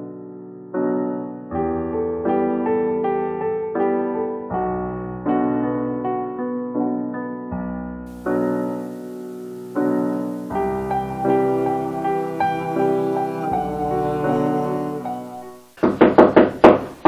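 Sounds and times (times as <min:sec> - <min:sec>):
soft slow piano music: 0:00.0 - 0:15.8.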